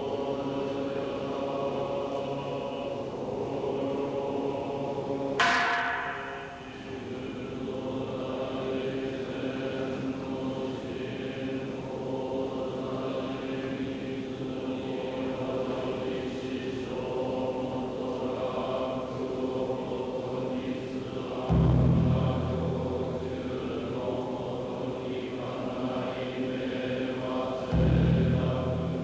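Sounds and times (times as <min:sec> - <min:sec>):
monks chanting in unison: 0:00.0 - 0:29.0.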